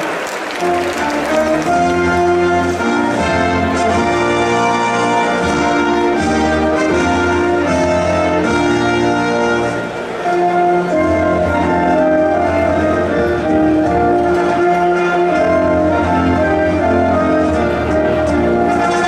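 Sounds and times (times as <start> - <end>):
orchestral anthem with brass: 0.0 - 19.0.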